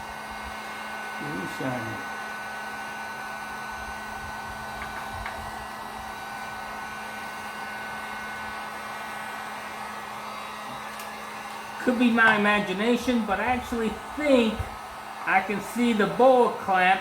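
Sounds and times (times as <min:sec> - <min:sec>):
heat gun blowing hot air: 0:00.0 - 0:17.0.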